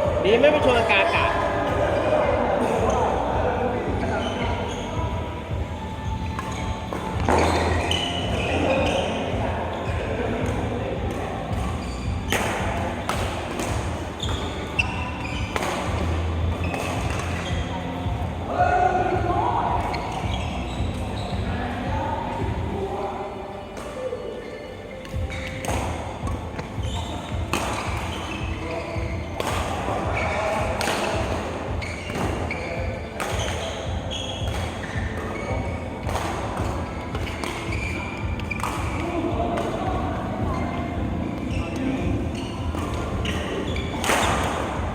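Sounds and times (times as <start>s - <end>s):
background music: 0.0s - 44.9s.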